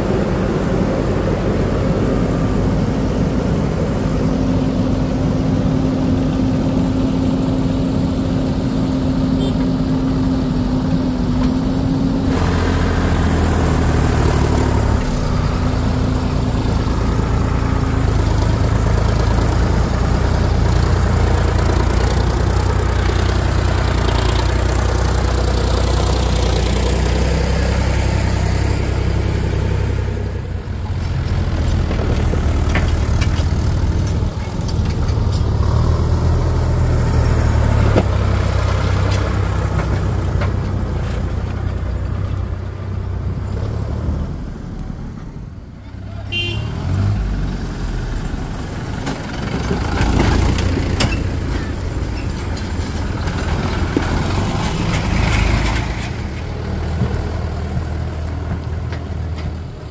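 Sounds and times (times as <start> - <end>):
diesel engines running: 0.0 - 59.9
tractor engine running: 0.0 - 59.9.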